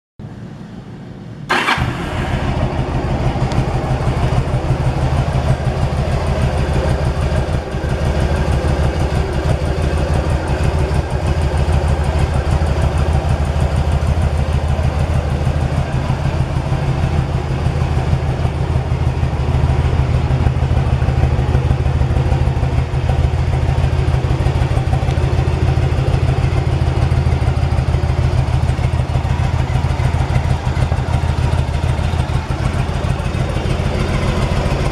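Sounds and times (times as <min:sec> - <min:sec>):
motorcycle engine starting and idling: 0:01.5 - 0:34.9.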